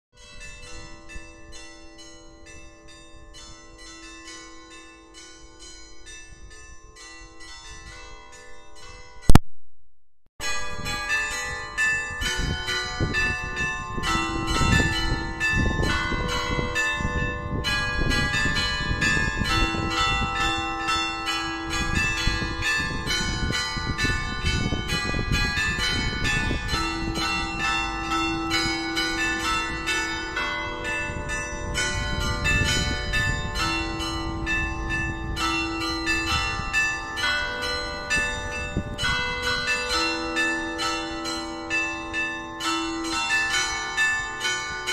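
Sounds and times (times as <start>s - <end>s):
church bells ringing: 0.2s - 9.4s, 10.4s - 44.9s.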